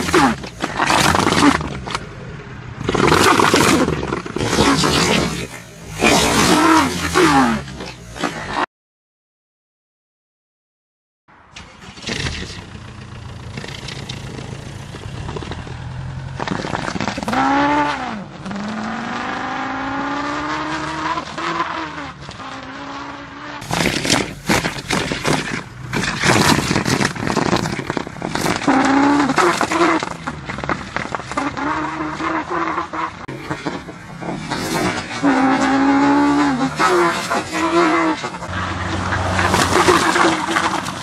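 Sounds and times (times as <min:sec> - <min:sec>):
car engine revving through hose: 0:00.0 - 0:02.0, 0:02.8 - 0:08.6, 0:11.8 - 0:41.0
hose scraping along road: 0:00.0 - 0:02.1, 0:02.8 - 0:08.6, 0:11.6 - 0:41.0.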